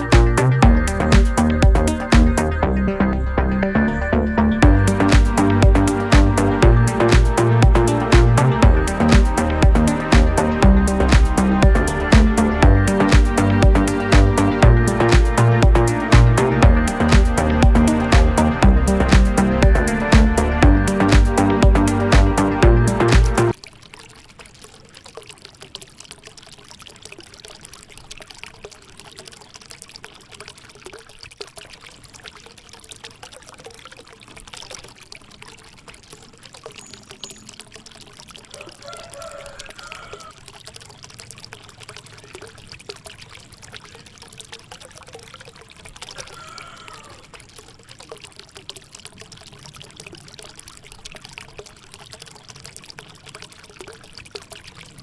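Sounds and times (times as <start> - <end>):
water trickling into pool: 0.0 - 55.0.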